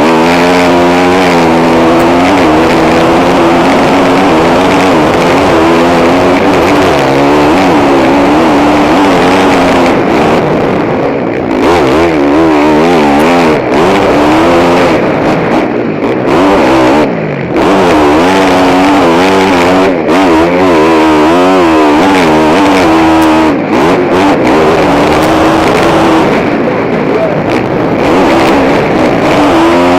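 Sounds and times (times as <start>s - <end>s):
motocross engine revving: 0.0s - 29.9s.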